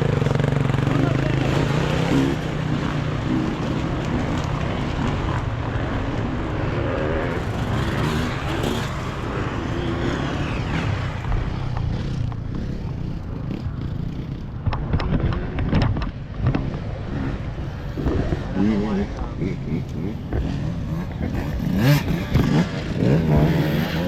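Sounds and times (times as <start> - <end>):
motorcycle engines running: 0.0 - 24.0.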